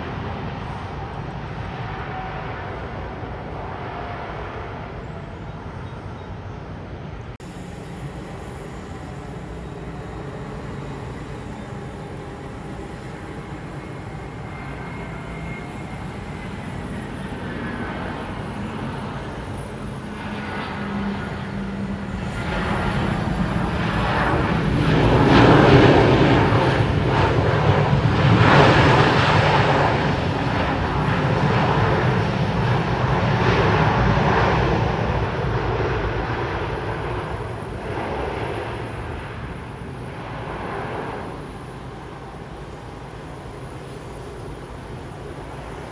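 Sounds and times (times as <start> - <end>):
jet airliner engine roar: 0.0 - 45.9.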